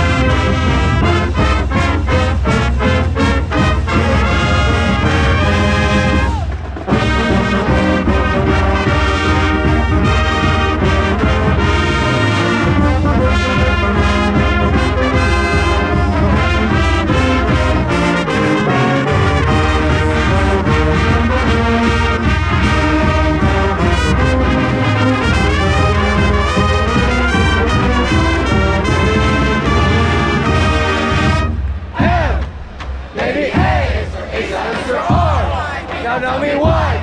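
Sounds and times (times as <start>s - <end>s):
marching band brass music: 0.0s - 37.0s.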